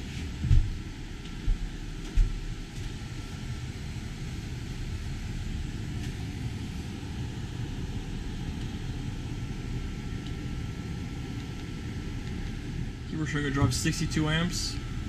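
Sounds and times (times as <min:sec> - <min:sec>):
air conditioner rumbling: 0:00.0 - 0:15.0.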